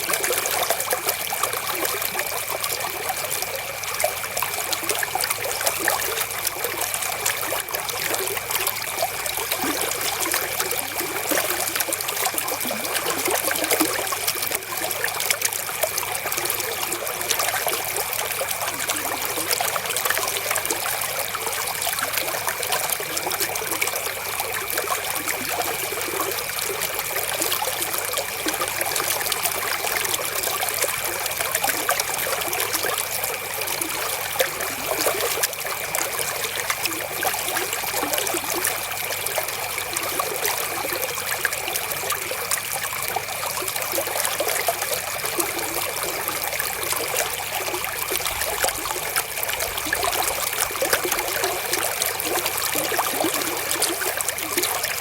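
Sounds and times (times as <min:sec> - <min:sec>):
river water trickling and splashing: 0:00.0 - 0:55.0.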